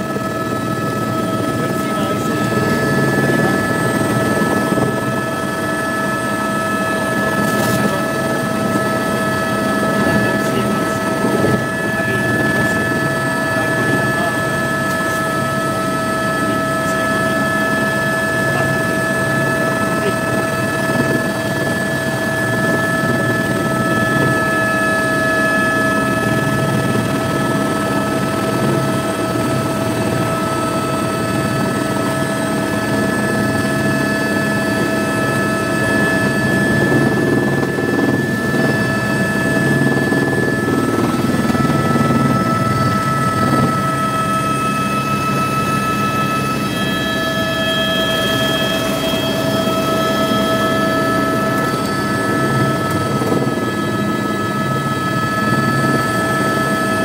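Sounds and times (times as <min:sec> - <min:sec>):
helicopter cabin whine: 0:00.0 - 0:57.0.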